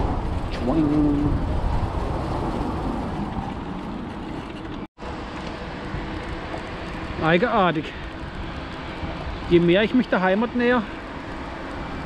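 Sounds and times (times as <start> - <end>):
highway traffic noise: 0.0 - 12.0
wind rumbling on microphone: 0.0 - 12.0.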